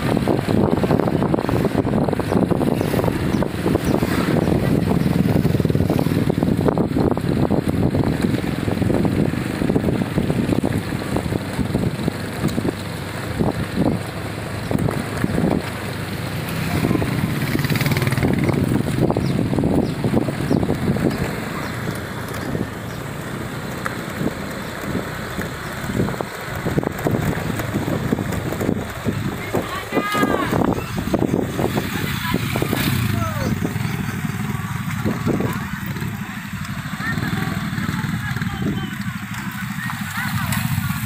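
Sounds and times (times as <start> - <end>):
motorcycle engines running: 0.0 - 41.0
wind buffeting microphone: 0.0 - 41.0.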